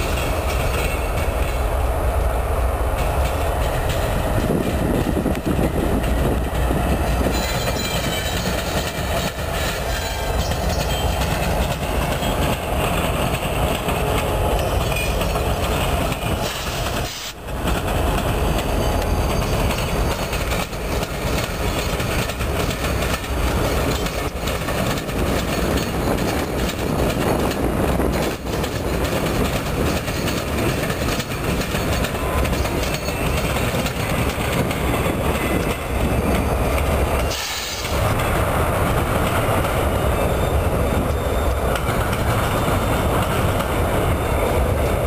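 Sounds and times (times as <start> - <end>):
diesel locomotive engines rumbling: 0.0 - 45.0
steel wheels on rails: 0.0 - 45.0.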